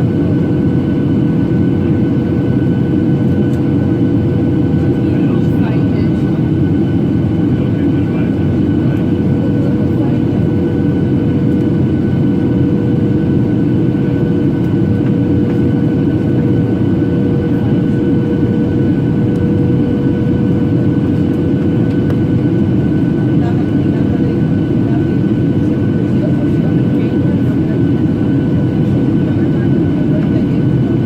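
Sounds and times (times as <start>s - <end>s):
airliner cabin roar: 0.0s - 31.0s.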